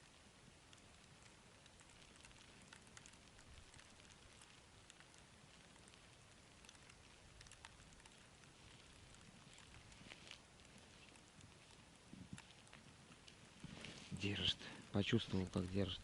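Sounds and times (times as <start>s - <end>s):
faint hiss: 0.0s - 16.0s
light ticks and patters: 0.0s - 16.0s.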